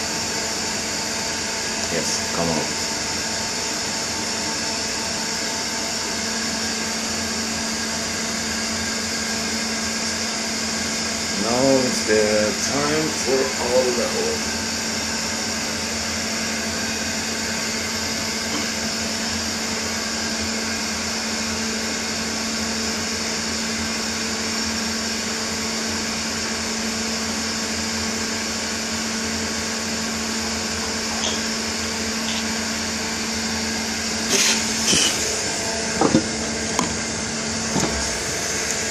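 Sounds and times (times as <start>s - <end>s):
machining centre humming: 0.0s - 22.0s, 26.7s - 38.9s.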